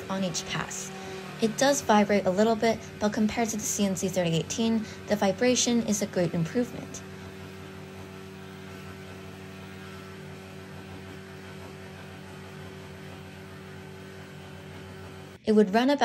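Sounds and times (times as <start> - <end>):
end mill cutting aluminum: 0.0 - 15.4
spindle motor humming: 0.0 - 16.0.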